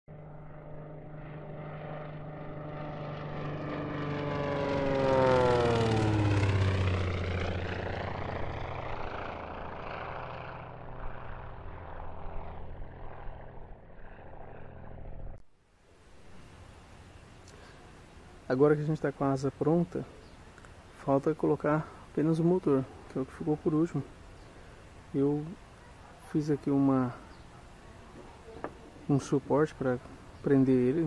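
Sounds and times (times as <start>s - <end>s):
propeller aircraft flying past: 0.1s - 31.0s.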